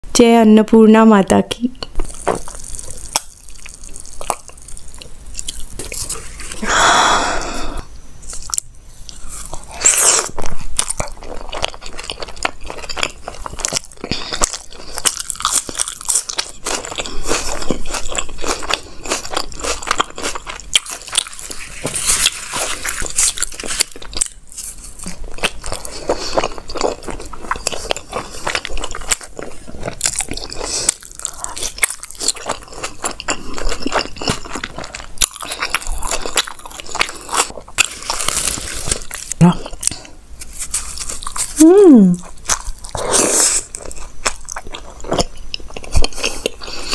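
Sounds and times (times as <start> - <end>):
wet chewing: 1.8 - 6.6, 8.3 - 46.9.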